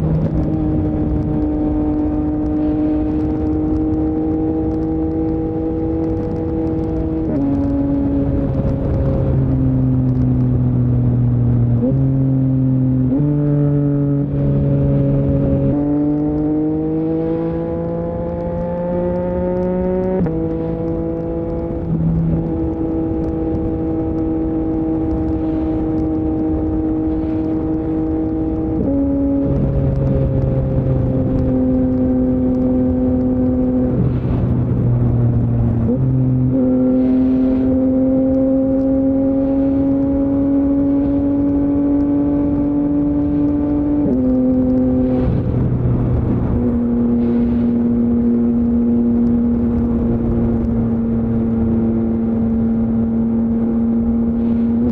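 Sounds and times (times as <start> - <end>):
motorcycle engine running: 0.0 - 54.8
wind rush: 0.0 - 54.9.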